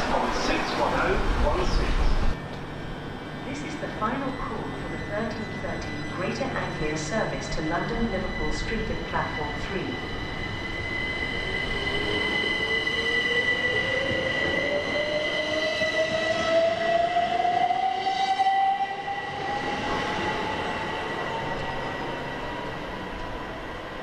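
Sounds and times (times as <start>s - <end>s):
train rolling noise: 0.0s - 24.0s.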